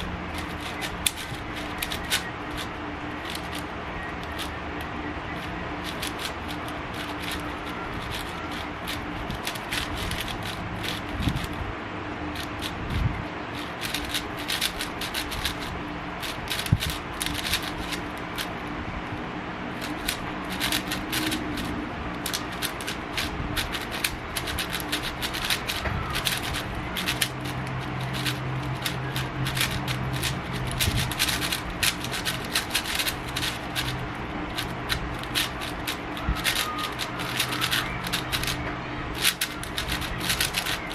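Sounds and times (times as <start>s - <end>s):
puzzle cube layers clicking: 0.0s - 11.6s, 13.6s - 18.6s, 19.8s - 40.9s.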